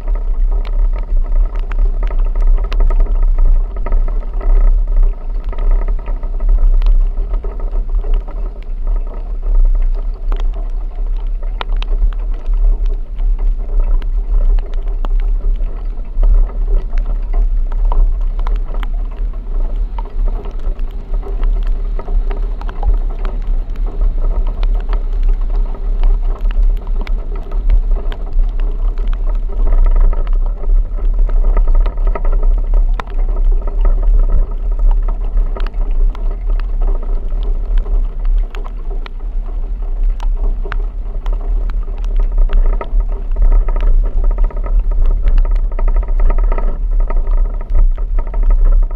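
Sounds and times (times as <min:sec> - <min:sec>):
rain ticking: 0:00.0 - 0:48.9
vehicle rumble and drone: 0:00.0 - 0:48.9.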